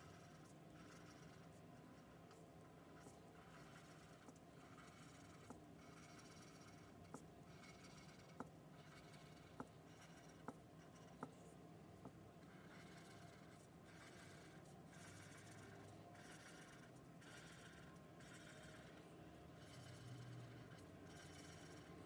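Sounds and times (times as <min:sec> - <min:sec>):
marker scratching on paper: 0:00.0 - 0:22.0.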